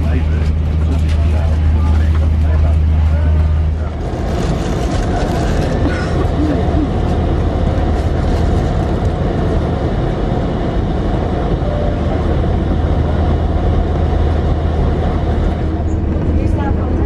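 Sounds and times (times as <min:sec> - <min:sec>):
jet engine cabin rumble: 0:00.0 - 0:17.0
low hum: 0:00.0 - 0:17.0.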